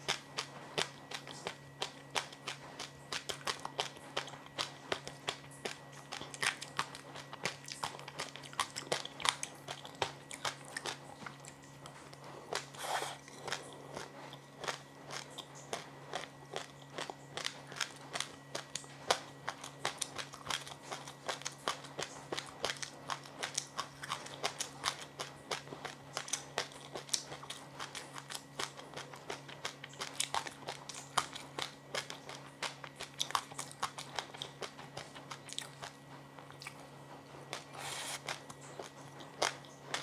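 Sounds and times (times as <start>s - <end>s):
crunchy snack chewing: 0.0s - 40.0s
faint low hum: 0.0s - 40.0s.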